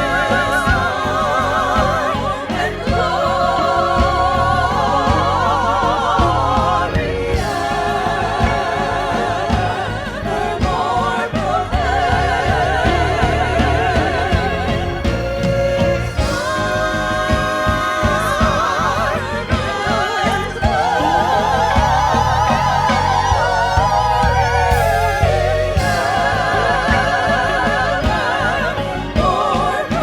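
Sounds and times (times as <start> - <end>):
instrumental accompaniment with beat: 0.0 - 30.0
voices singing with vibrato: 0.0 - 30.0.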